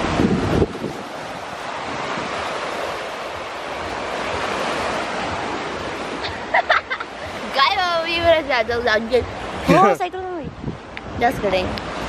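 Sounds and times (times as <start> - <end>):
waves breaking on sandy beach: 0.0 - 12.0.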